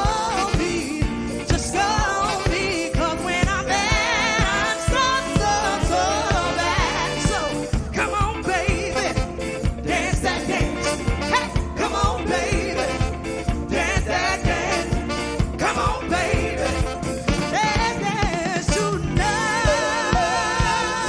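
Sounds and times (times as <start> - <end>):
live soul music with singers: 0.0 - 21.0.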